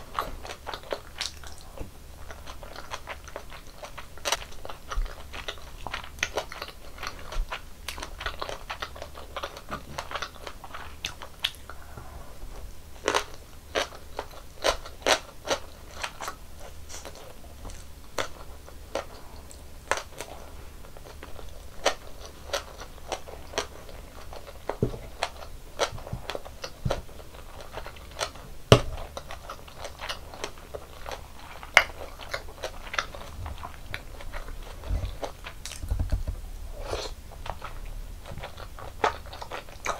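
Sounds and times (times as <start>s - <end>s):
person chewing snack food: 0.0s - 39.9s.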